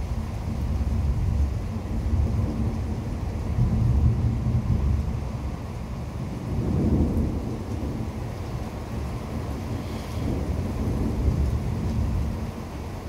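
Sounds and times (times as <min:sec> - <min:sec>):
thunder rumbling: 0:00.0 - 0:13.0.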